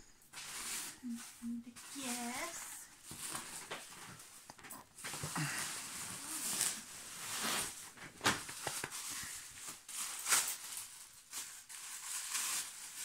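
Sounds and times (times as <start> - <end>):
plastic and bubble wrap crinkling: 0.0 - 13.0.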